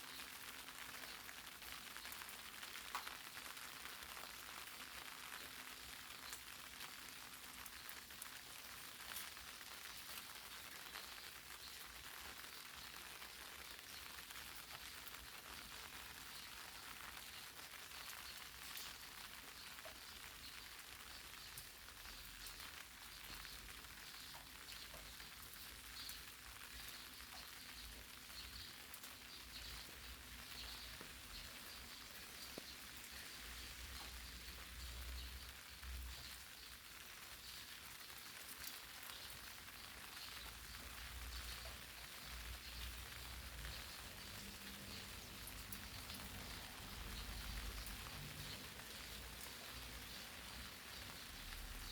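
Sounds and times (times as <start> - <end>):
light rain on leaves: 0.0 - 51.9.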